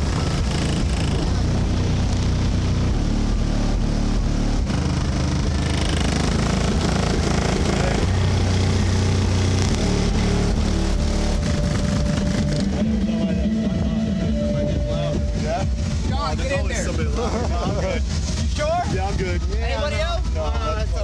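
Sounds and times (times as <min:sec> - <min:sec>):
subwoofer deep bass notes: 0:00.0 - 0:21.0.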